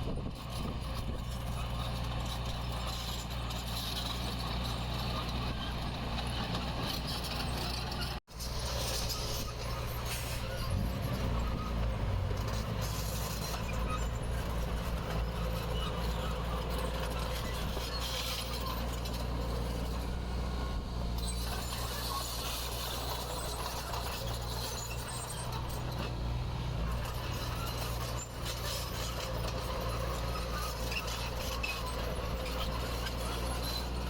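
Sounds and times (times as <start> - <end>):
bulldozer diesel engine running: 0.0 - 34.0
metallic clinking and scraping tracks: 0.0 - 34.0.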